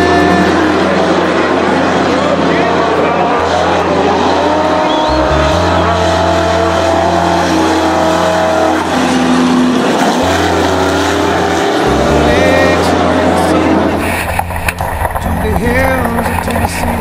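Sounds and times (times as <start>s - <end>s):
race truck engines revving: 0.0s - 17.0s.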